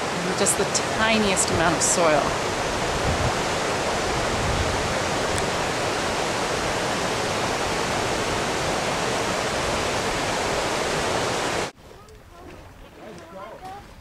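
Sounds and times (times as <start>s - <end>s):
river water rushing over rocks: 0.0s - 11.7s.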